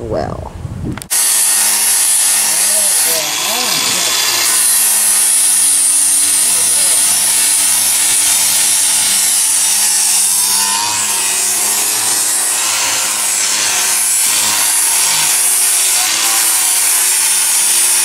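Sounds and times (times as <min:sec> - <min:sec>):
angle grinder motor whine: 0:01.1 - 0:18.0.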